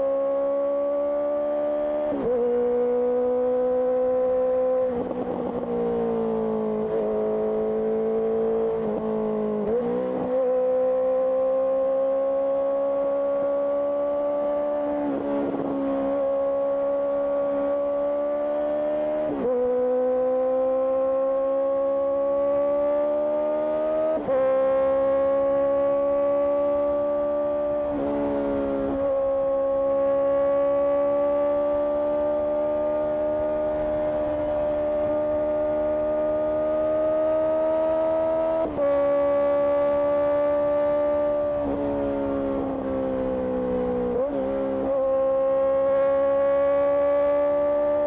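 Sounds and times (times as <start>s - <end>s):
motorcycle engine shifting gears: 0.0s - 48.0s.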